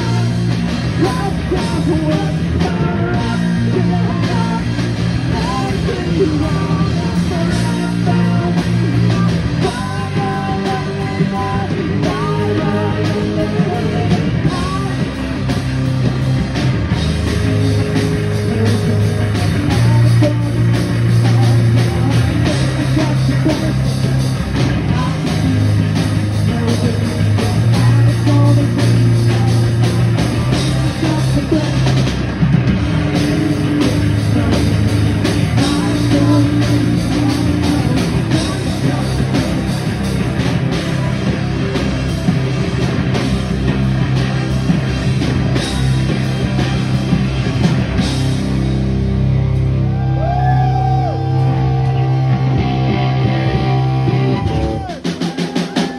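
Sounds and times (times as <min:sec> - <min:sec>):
bass guitar: 0:00.0 - 0:55.9
drum kit: 0:00.0 - 0:55.9
electric guitars: 0:00.0 - 0:55.9.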